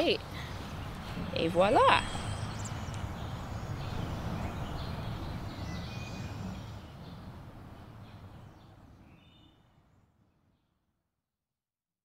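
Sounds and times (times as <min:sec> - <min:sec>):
birds chirping: 0:00.0 - 0:10.0
low background rumble: 0:00.0 - 0:10.2.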